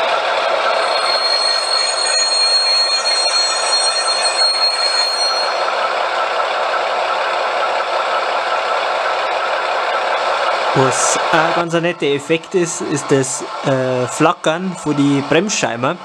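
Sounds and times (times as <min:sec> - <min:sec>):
model locomotive diesel engine sound: 0:00.0 - 0:16.0
steady high whine: 0:00.0 - 0:16.0.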